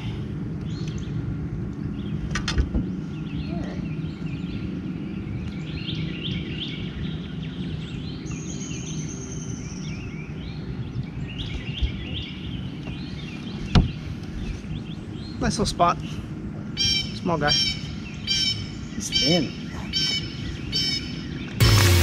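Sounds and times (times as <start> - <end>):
low background rumble: 0.0 - 21.8
birds chirping: 0.0 - 22.0.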